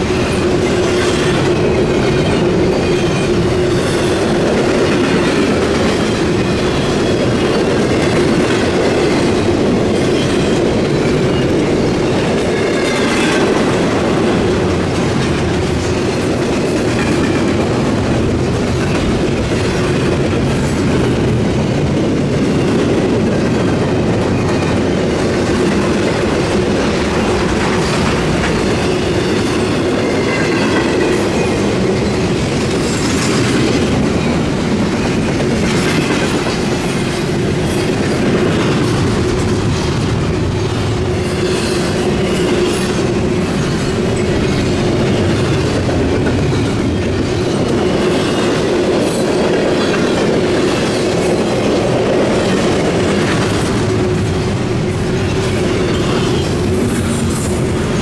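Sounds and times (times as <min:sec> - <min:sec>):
train wheels rumbling and clacking: 0:00.0 - 0:58.0.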